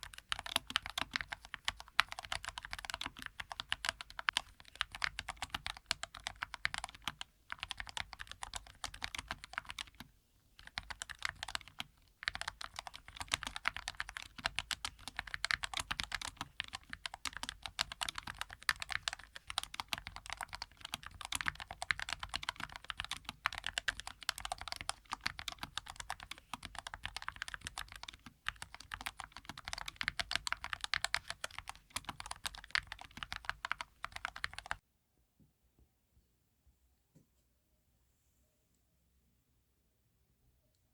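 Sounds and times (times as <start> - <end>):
typing on mechanical keyboard: 0.0 - 34.8.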